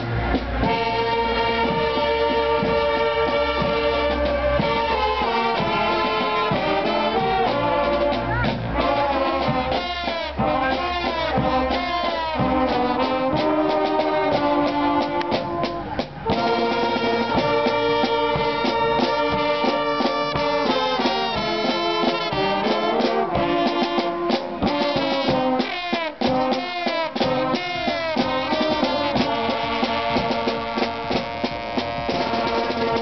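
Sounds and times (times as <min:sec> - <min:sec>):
brass band playing: 0:00.0 - 0:33.0
low brass horn: 0:00.0 - 0:33.0
steady drum beat: 0:00.0 - 0:33.0.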